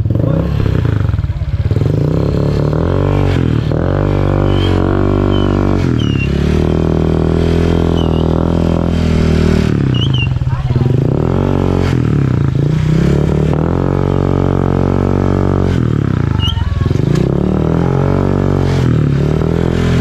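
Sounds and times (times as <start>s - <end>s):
scooter engine revving: 0.0s - 20.0s.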